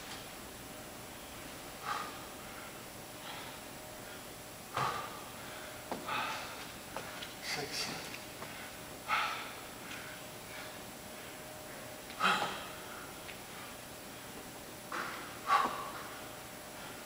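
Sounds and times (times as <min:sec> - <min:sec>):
man breathing hard: 0:01.7 - 0:17.0.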